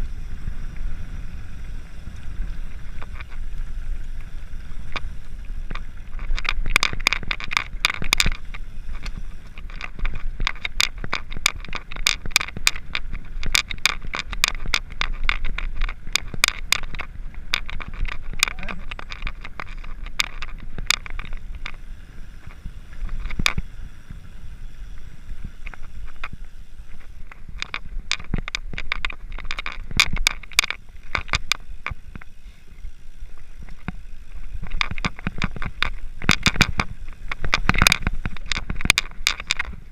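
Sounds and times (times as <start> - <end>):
bikes clicking and rattling: 0.0 - 39.9.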